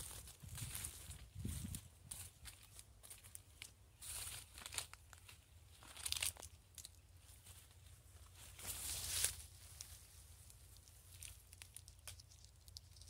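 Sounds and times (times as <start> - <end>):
dry leaves crackling underfoot: 0.0 - 13.0.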